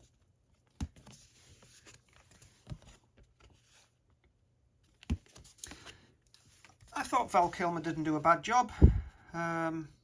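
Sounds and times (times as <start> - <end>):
photo cards rustling and sliding: 0.0 - 8.4.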